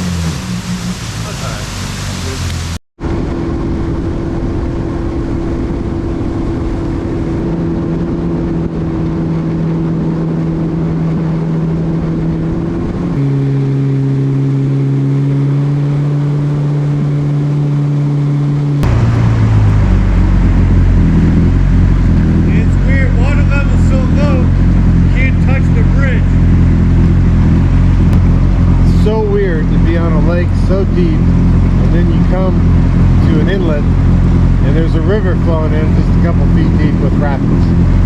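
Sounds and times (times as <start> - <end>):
personal watercraft engine: 0.0 - 38.0
water rushing: 0.0 - 38.0.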